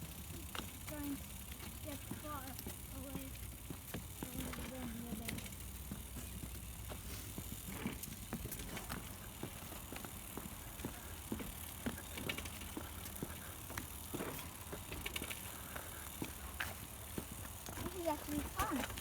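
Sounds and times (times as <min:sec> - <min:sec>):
footsteps crunching on path: 0:00.0 - 0:19.0.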